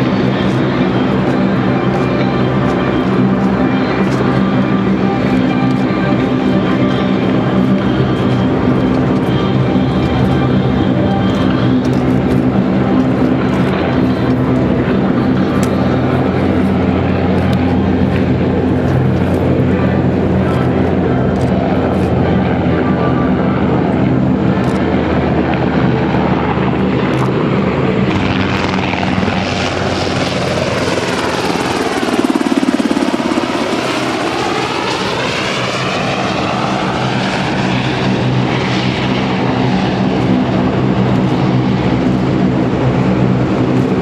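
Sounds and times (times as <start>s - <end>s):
helicopter flying past: 0.0s - 44.0s.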